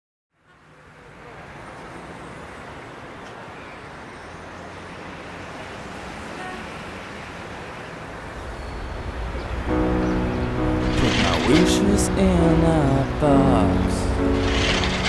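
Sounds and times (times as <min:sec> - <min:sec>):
distant road traffic: 0:00.3 - 0:15.0.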